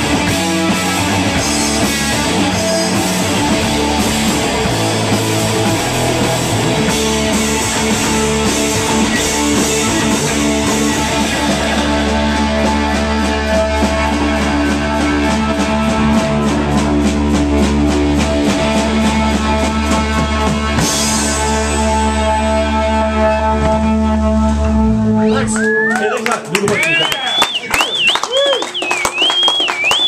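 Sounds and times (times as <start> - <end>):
electric guitar chords: 0.0 - 25.9
bass guitar: 0.0 - 30.0
drum kit beat: 0.0 - 30.0.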